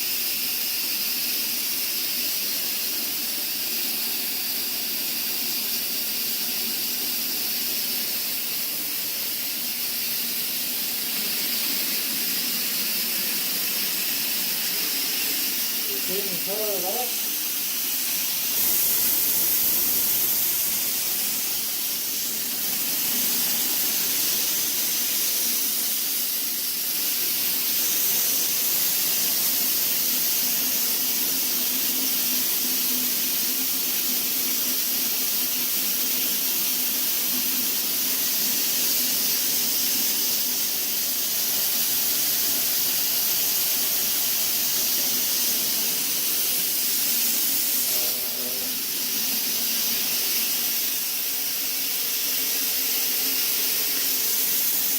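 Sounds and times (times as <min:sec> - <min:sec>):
fog spraying hiss: 0:00.0 - 0:54.9.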